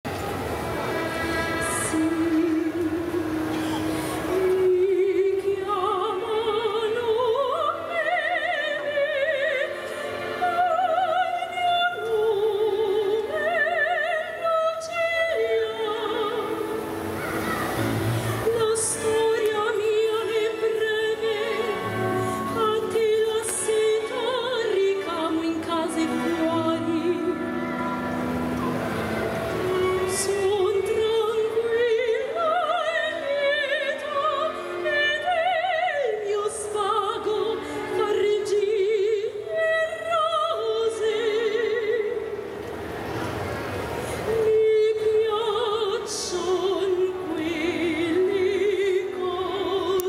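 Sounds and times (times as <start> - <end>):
symphony orchestra: 0.1 - 50.0
woman singing opera: 0.9 - 42.6, 44.0 - 50.0.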